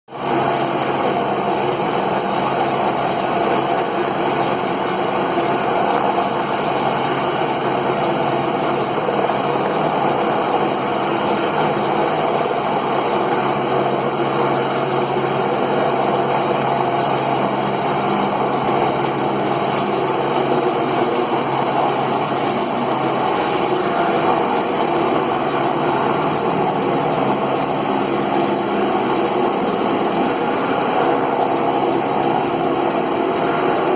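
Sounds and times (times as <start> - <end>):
helicopter engine and rotor: 0.6 - 33.9.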